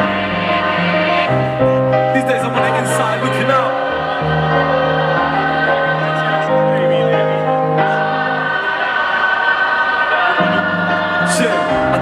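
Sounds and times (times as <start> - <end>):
gospel-style choir vocals: 0.0 - 12.0.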